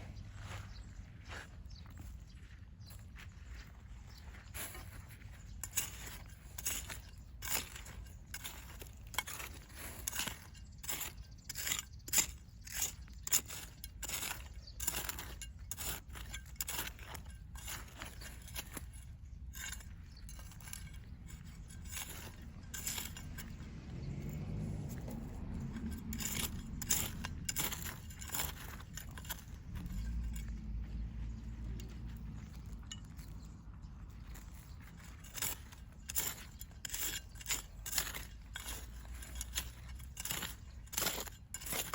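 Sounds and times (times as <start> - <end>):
hand tool scraping soil: 4.1 - 33.6, 34.2 - 41.9.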